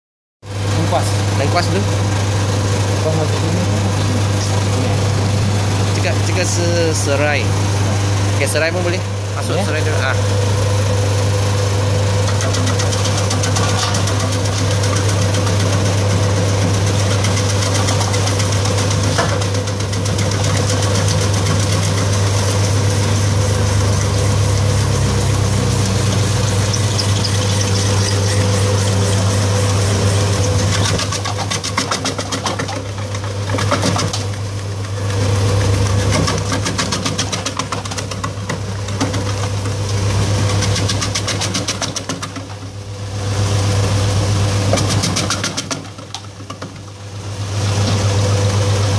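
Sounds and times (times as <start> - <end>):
electric vegetable chopper humming: 0.5 - 48.9.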